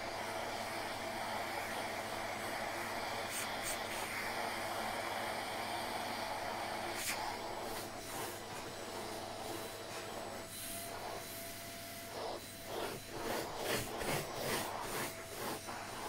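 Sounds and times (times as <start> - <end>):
vacuum airflow hiss: 0.0 - 16.0.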